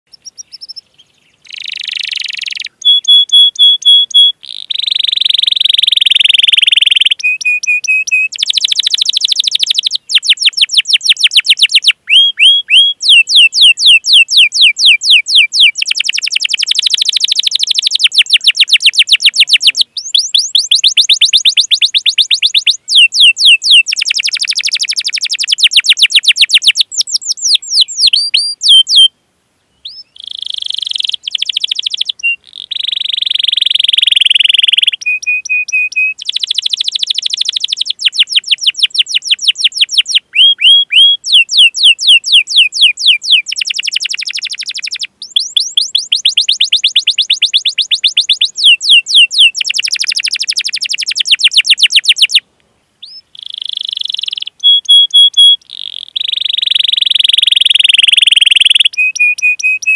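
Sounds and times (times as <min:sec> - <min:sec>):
canary singing: 0:00.1 - 0:29.1, 0:29.8 - 0:52.4, 0:53.0 - 0:59.9.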